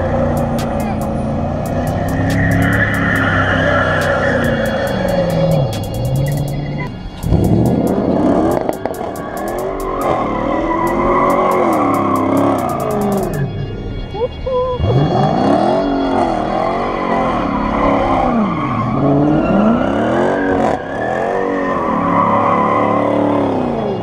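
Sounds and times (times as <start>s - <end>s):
car engine revving: 0.0s - 14.0s, 14.8s - 24.0s
tires squealing: 0.0s - 24.0s.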